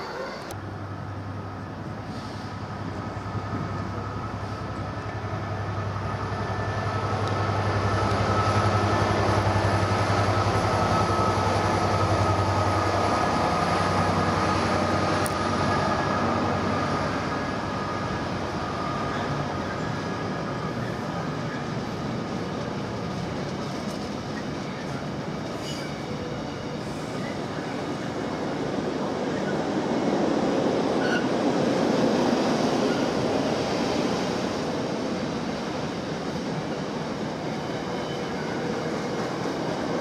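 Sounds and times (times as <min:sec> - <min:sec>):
train wagons rolling on rails: 0:00.0 - 0:40.0.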